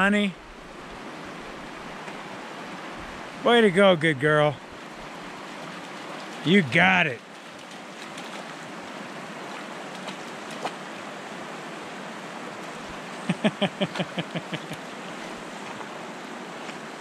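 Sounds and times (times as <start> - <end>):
river running over rocks: 0.0 - 17.0.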